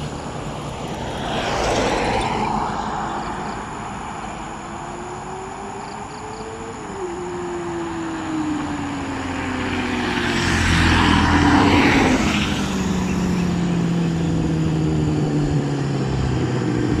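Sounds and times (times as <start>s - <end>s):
motorcycle passing by: 0.0s - 17.0s.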